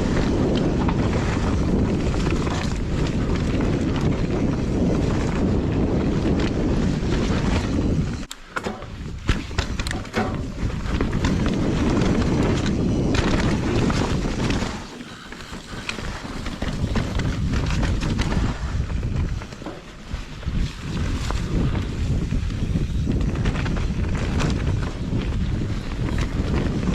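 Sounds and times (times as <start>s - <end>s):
bike rattling clicks and knocks: 0.0s - 26.9s
tyres rumbling over dirt: 0.0s - 26.9s
wind buffeting microphone: 0.0s - 26.9s.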